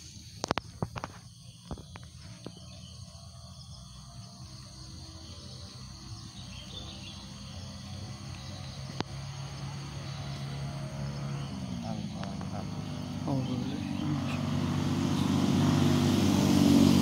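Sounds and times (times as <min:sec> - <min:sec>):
birds: 0:00.0 - 0:15.7
faint insects: 0:00.0 - 0:17.0
low steady drone: 0:02.5 - 0:17.0.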